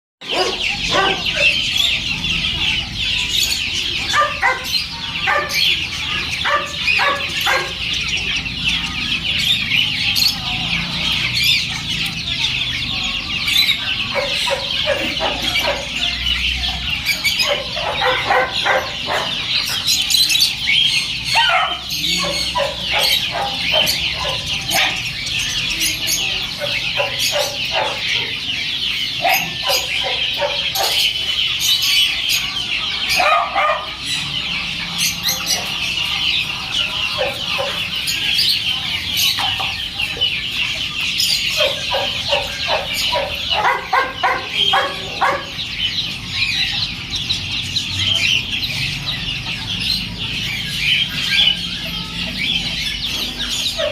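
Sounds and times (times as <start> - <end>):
caged birds chirping: 0.2 - 53.9.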